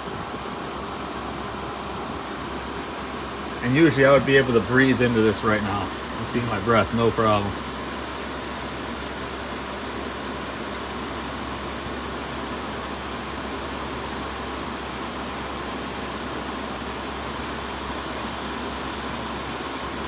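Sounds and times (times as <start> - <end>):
air conditioner fan air noise: 0.0 - 20.0.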